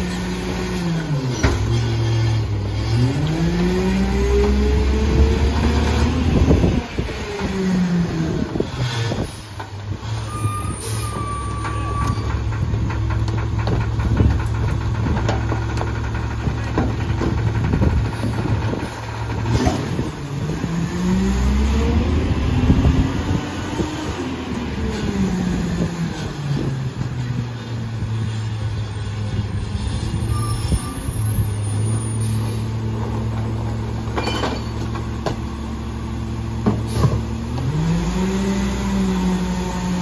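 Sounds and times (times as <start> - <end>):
garbage truck engine: 0.0 - 40.0.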